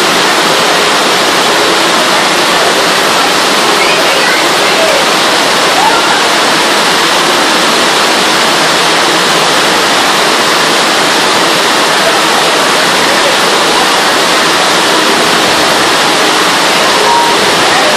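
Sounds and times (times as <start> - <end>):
heavy rain pouring: 0.0 - 17.9.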